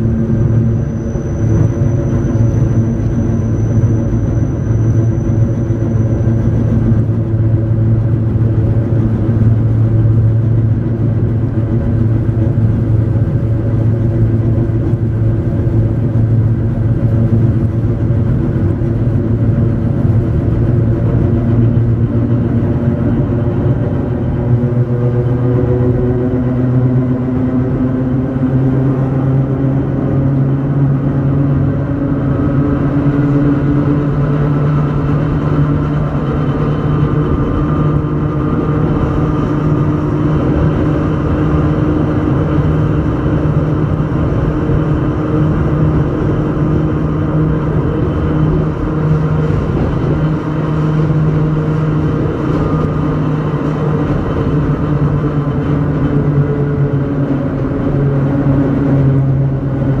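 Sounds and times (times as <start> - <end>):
train motor drone: 0.0 - 60.0
wheels rumbling on rail: 0.0 - 60.0.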